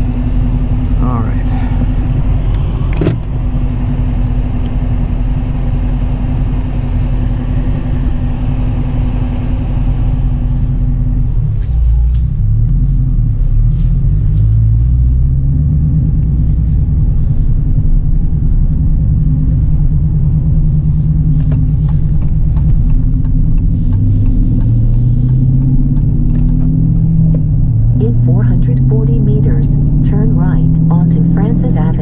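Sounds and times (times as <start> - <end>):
car exhaust rumbling: 0.0 - 32.0.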